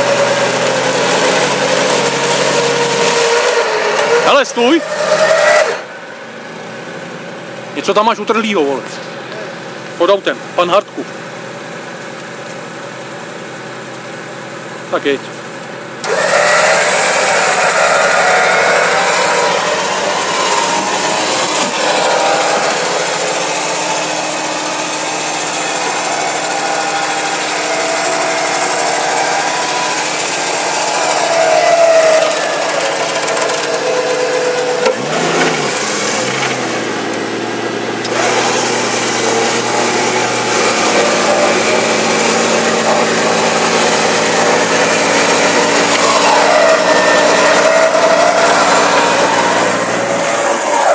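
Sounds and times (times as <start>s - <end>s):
electric winch motor whining: 0.0s - 10.8s, 15.7s - 50.9s.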